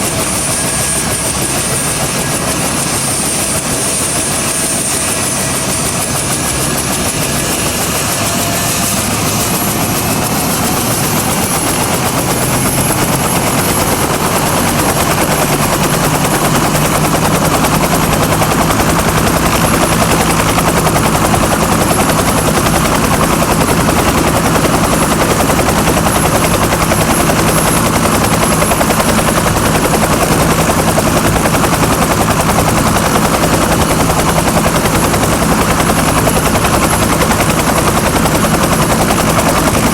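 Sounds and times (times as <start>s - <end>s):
helicopter engine whine: 0.0s - 39.9s
helicopter rotor noise: 0.0s - 39.9s.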